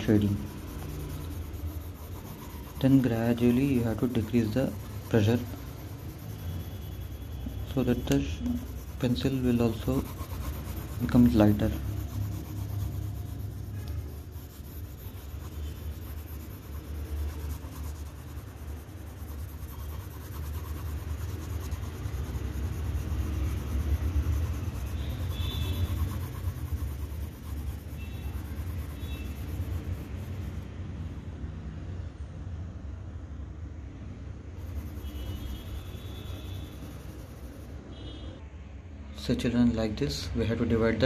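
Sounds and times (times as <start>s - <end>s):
pencil shading on paper: 0.0s - 30.7s, 34.6s - 37.8s
low rumble of drawing board: 0.0s - 31.4s, 34.2s - 37.8s.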